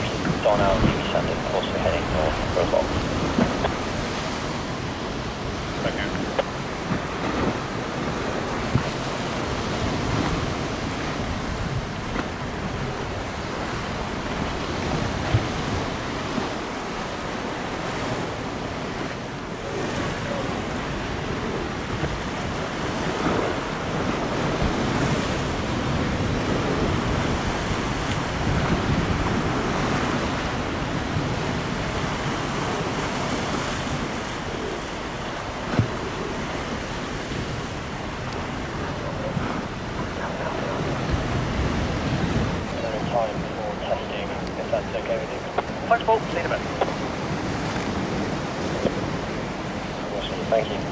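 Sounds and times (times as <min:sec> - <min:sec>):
wind rushing across microphone: 0:00.0 - 0:50.9.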